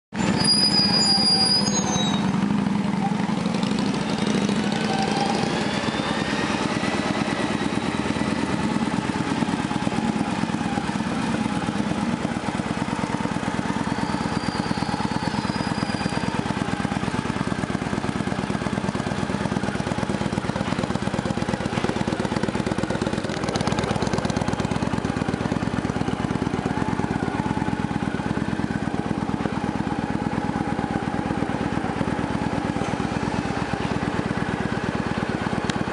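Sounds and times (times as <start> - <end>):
motorcycle engine idling: 2.0 - 35.9.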